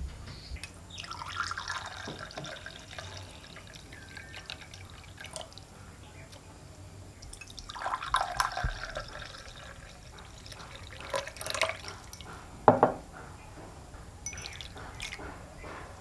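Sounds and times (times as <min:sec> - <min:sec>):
cups clinking: 0:00.6 - 0:06.4, 0:07.2 - 0:13.3, 0:14.2 - 0:15.9
tea pouring into cups: 0:00.6 - 0:13.0, 0:14.2 - 0:15.7.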